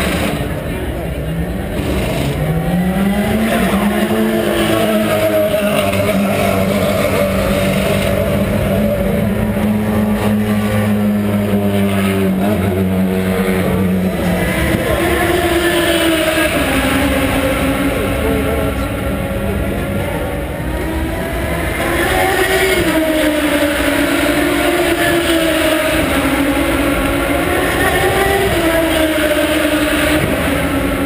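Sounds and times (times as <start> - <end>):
race car engines: 0.0 - 31.0.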